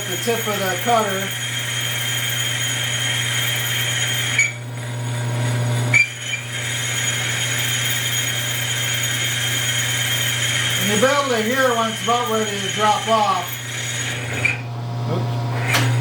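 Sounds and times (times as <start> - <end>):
high-pitched cutting whine: 0.0 - 16.0
lathe motor hum: 0.0 - 16.0.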